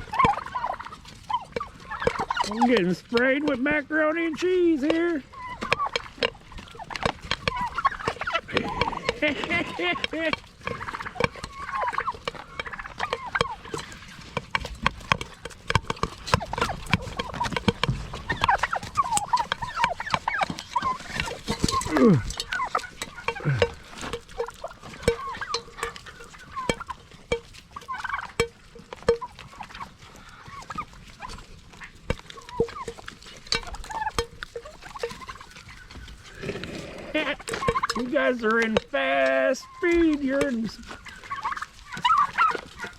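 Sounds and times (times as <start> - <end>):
beaks tapping a bowl: 0.0 - 42.9
turkeys calling: 0.0 - 42.9.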